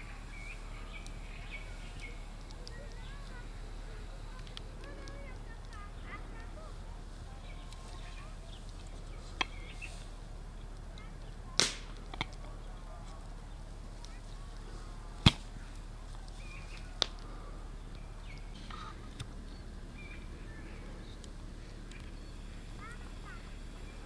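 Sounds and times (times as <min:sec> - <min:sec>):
faint steady background noise: 0:00.0 - 0:24.0.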